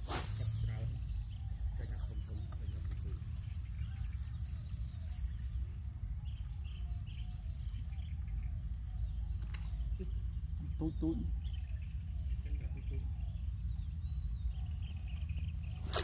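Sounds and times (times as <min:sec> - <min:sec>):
steady low rumble: 0:00.0 - 0:15.9
small bird chirping: 0:00.0 - 0:16.0.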